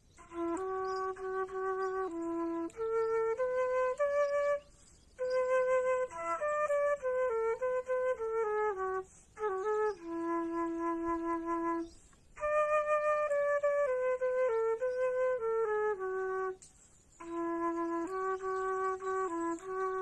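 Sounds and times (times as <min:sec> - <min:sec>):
flute playing slow melody: 0:00.0 - 0:20.0.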